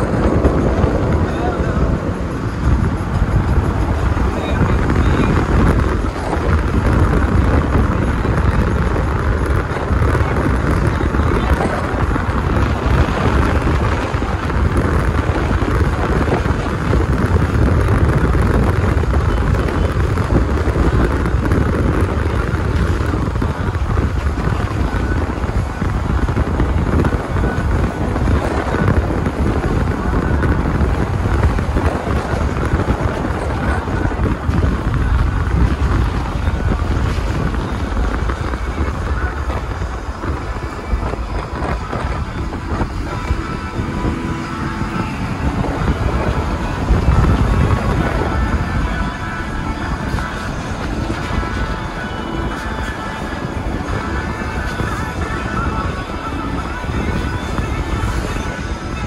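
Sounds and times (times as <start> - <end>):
car road and wind noise: 0.0 - 59.0.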